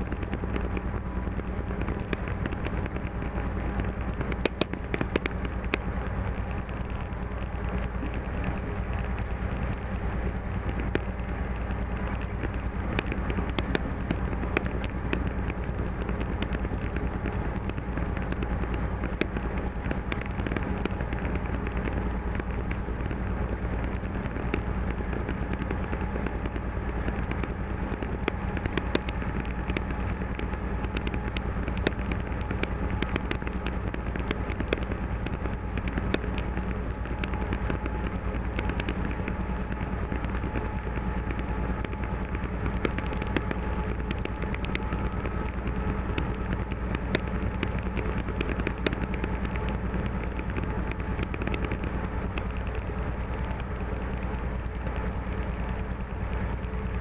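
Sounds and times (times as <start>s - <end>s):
diesel locomotive engine running: 0.0s - 57.0s
sharp clicks and crackles: 0.0s - 57.0s.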